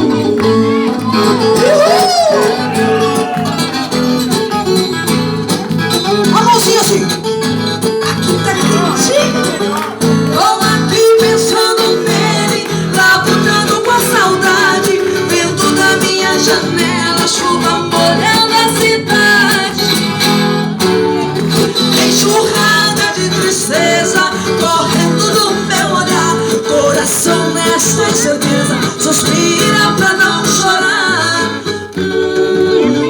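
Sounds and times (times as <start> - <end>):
latin guitar music: 0.0 - 33.0.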